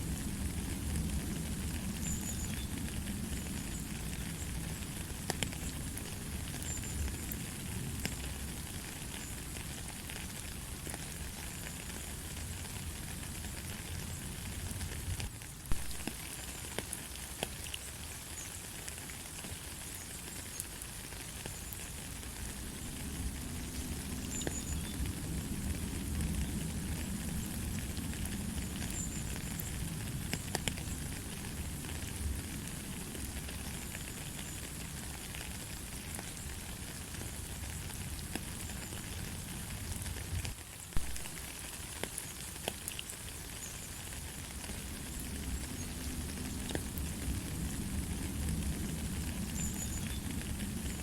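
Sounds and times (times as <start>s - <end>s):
light rain falling: 0.0s - 51.0s
raindrops ticking: 0.0s - 51.0s.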